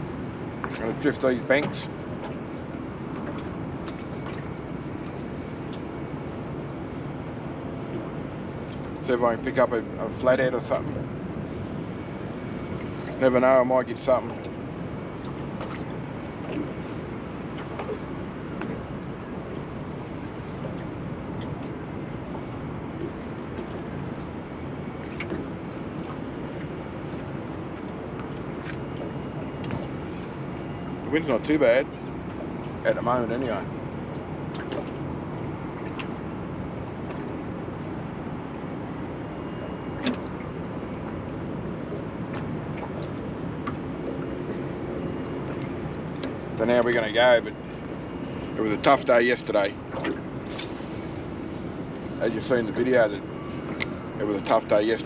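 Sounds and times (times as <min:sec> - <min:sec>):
boat engine low noise: 0:00.0 - 0:55.0
water splashes: 0:00.0 - 0:55.0.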